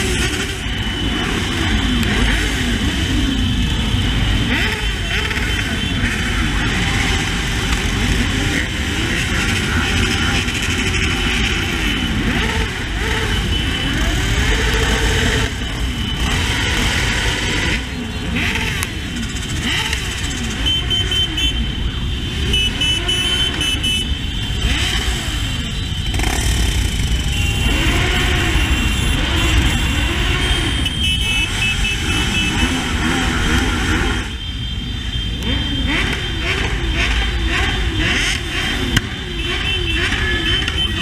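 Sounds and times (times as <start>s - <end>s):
motorcycle engines revving: 0.0s - 41.0s.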